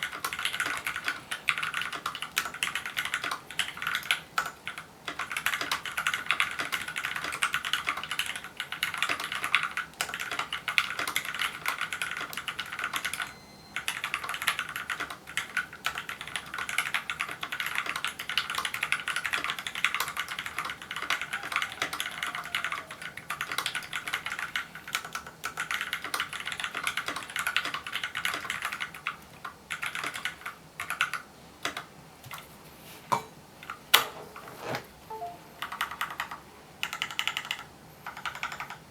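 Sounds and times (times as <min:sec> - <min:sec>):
fast typing on mechanical keyboard: 0:00.0 - 0:31.9, 0:35.1 - 0:38.9.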